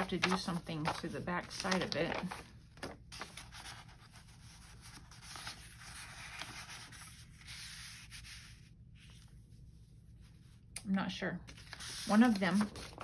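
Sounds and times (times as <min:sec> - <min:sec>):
paper rustling: 0:00.0 - 0:09.4, 0:11.5 - 0:13.0.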